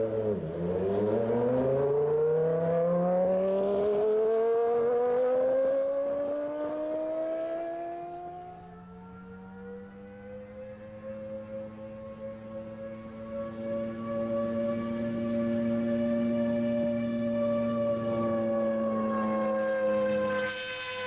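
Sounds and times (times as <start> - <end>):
racing car engine at high revs: 0.0 - 21.0.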